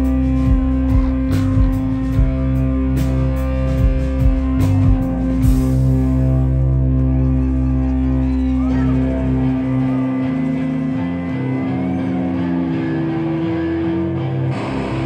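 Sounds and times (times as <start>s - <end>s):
deep low drone: 0.0s - 15.0s
electric guitar: 0.0s - 15.0s
live rock band playing: 0.0s - 15.0s.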